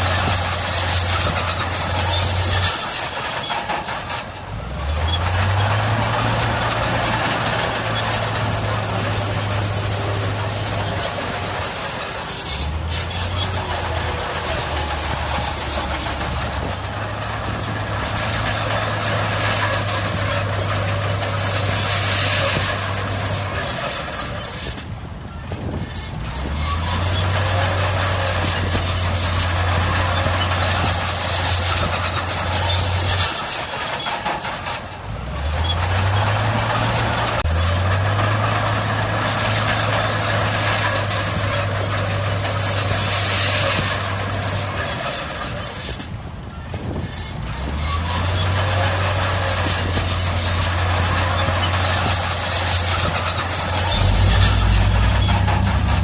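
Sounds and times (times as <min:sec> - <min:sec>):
heavy diesel machines working: 0:00.0 - 0:56.0.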